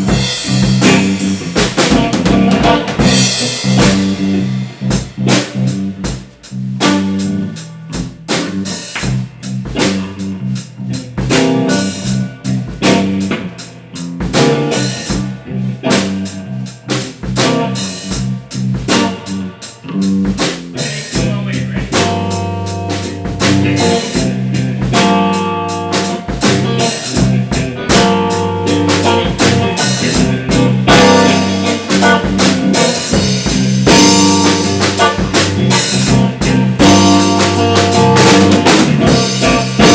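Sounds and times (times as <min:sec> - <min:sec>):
drum kit beat: 0:00.0 - 0:39.9
sustained guitar notes: 0:00.0 - 0:39.9.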